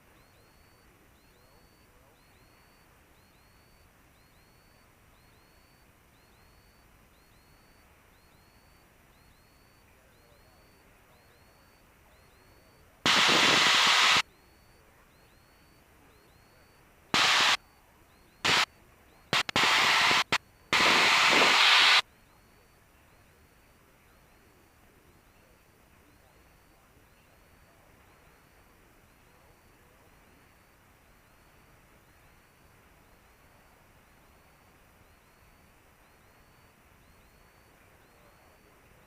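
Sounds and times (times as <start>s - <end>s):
bursts of radio static hiss: 0.0s - 39.0s
faint steady radio hiss: 0.0s - 39.0s.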